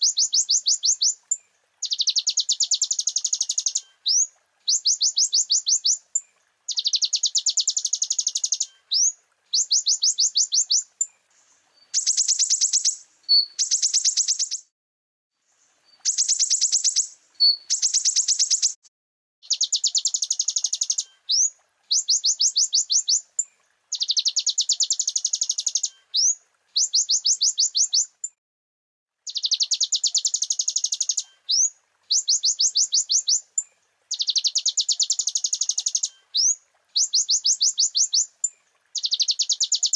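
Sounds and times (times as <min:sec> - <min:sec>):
bird trilling song: 0:00.0 - 0:14.7, 0:15.9 - 0:18.8, 0:19.4 - 0:28.4, 0:29.3 - 0:39.9.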